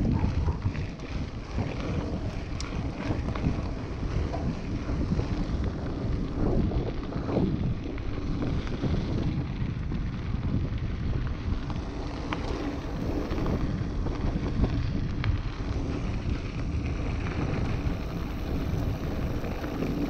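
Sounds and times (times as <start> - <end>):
bike rattling: 0.0 - 20.0
bike tyres crunching on gravel: 0.0 - 20.0
wind on microphone: 0.0 - 20.0.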